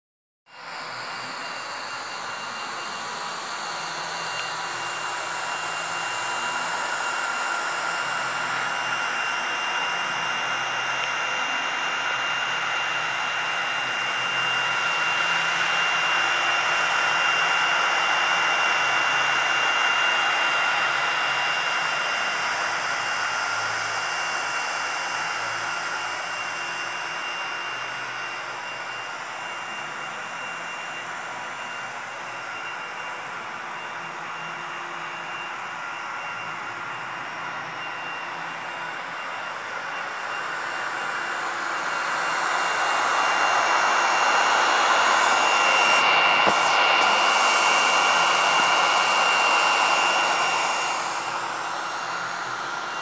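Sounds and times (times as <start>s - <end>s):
hot-air welding machine blower hiss: 0.6s - 53.0s.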